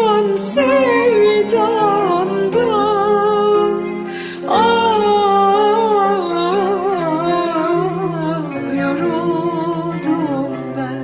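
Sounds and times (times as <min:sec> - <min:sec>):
karaoke backing track: 0:00.0 - 0:11.0
woman singing a slow ballad: 0:00.0 - 0:11.0.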